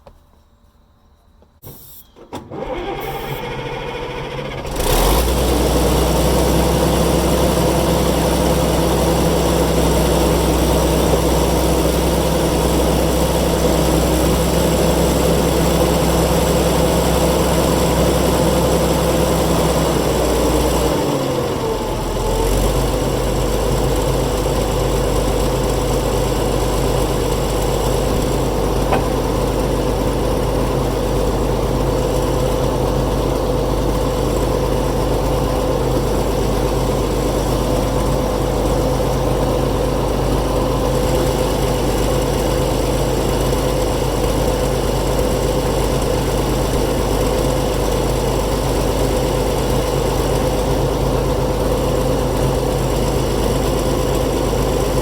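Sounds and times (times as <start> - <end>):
diesel engine idling: 2.6 - 55.0.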